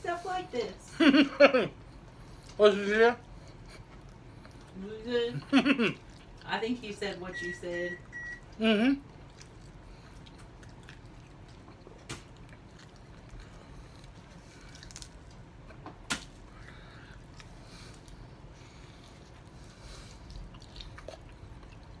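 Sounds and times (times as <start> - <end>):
wet eating sounds: 1.8 - 6.6, 8.0 - 22.0.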